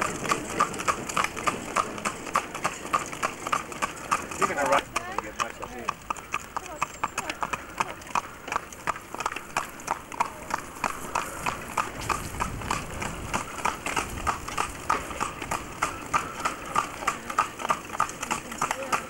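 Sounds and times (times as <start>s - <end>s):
hooves clip-clopping on tarmac: 0.0s - 19.0s.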